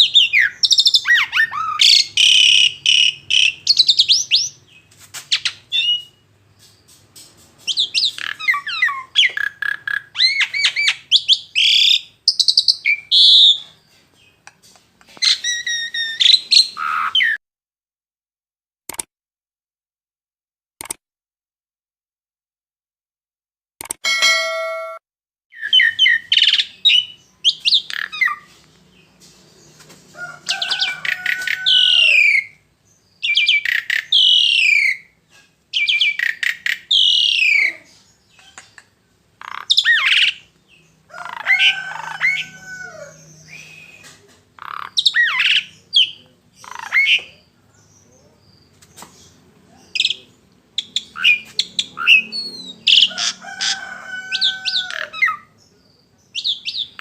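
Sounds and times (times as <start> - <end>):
songbird singing: 0.0 - 17.4, 25.5 - 57.0.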